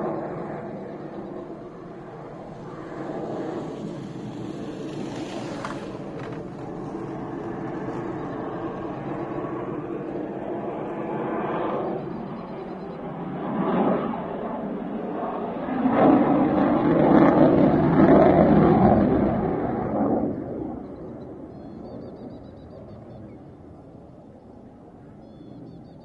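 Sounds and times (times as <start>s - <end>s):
distant jet engine noise: 0.0s - 26.0s.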